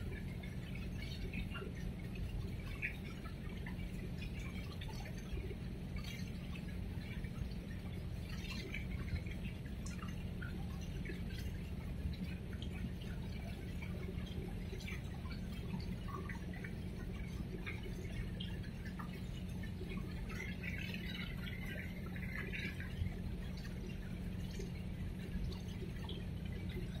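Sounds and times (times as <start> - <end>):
water lapping and splashing: 0.0 - 27.0.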